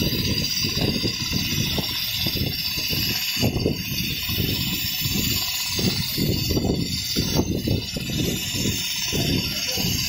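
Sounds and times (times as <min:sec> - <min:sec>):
sewing machine needle chatter: 0:00.0 - 0:10.0
sewing machine whine: 0:00.0 - 0:10.0.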